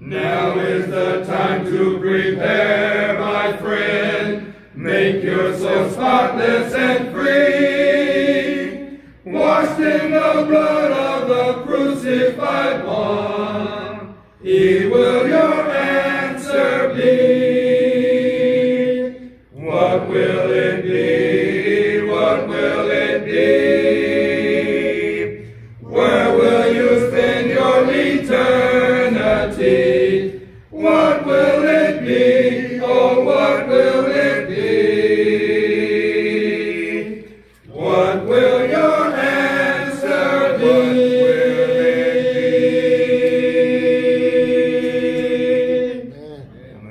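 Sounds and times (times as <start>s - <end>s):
congregation singing a hymn: 0.0s - 46.9s.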